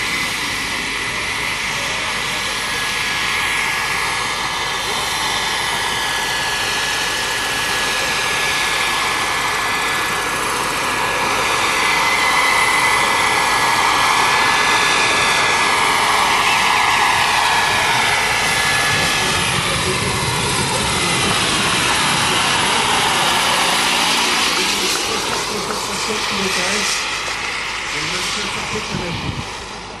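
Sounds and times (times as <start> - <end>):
helicopter rotor rushing: 0.0 - 30.0
high turbine whine: 0.0 - 30.0.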